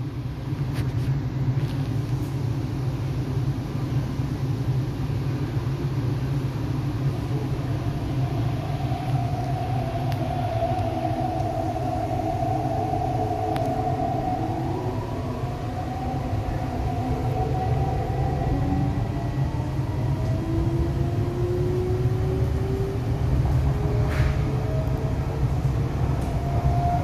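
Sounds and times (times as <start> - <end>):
train running gear rumble: 0.0 - 27.0.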